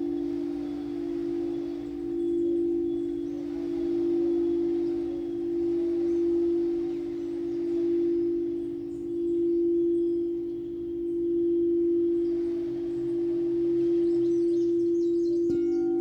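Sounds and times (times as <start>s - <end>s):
singing bowl low tone: 0.0s - 16.0s.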